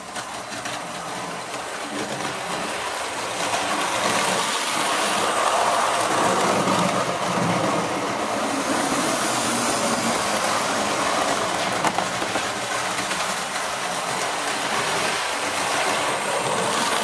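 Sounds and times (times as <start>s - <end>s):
model train motors whirring: 0.0s - 17.0s
wheels rolling on track: 0.0s - 17.0s.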